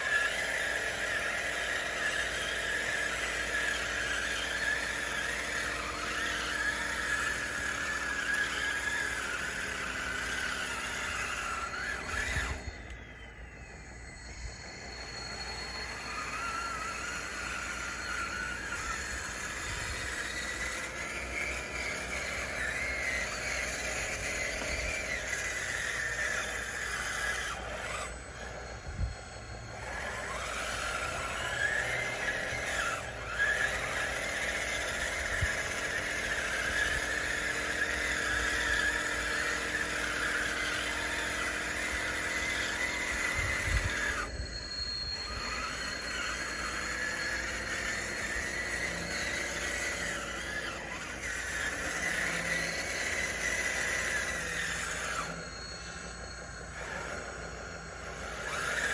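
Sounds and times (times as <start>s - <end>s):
toy bulldozer motors whining: 0.0s - 58.9s.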